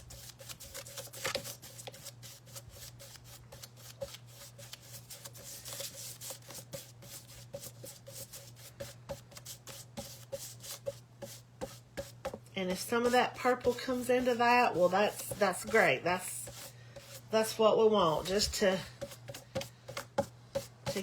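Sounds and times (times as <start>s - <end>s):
paintbrush scrubbing on canvas: 0.0s - 21.0s.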